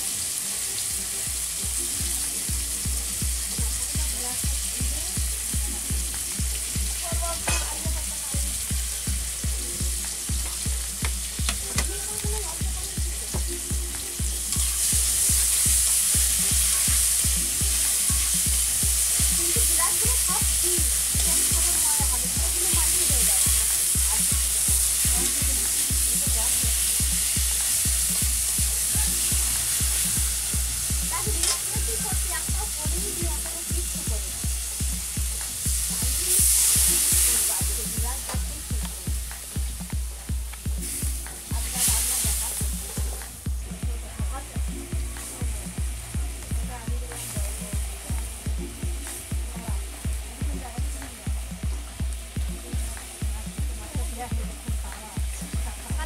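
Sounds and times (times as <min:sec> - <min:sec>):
fish frying in hot oil: 0:00.0 - 0:56.0
low thumping beat: 0:00.7 - 0:56.0.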